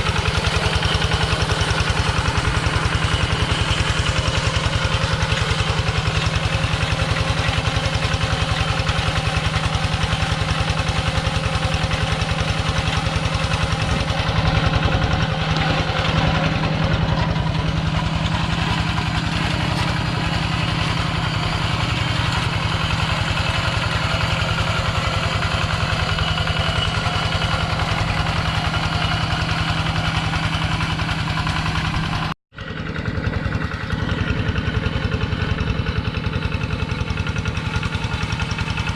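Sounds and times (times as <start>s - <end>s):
walking tractor engine running: 0.0s - 38.9s.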